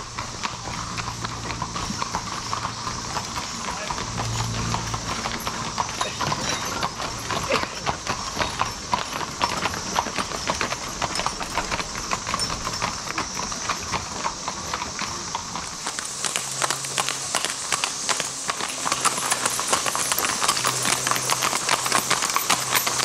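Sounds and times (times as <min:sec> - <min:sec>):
cicada chorus drone: 0:00.0 - 0:23.0
horse hooves clip-clopping: 0:00.0 - 0:23.0.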